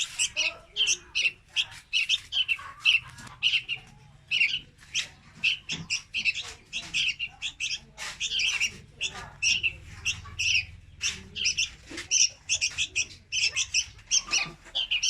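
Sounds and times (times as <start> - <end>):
birds chirping rapidly: 0.0 - 15.0.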